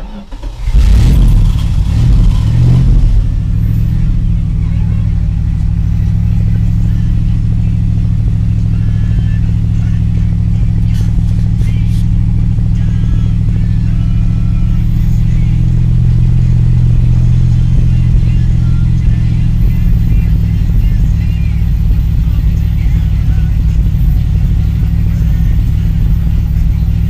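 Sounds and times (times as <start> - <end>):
pickup truck engine running: 0.0 - 27.0.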